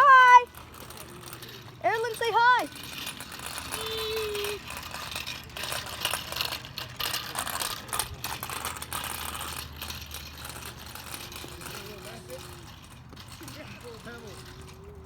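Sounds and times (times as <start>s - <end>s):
bicycle rattling and clicking: 0.0s - 15.0s.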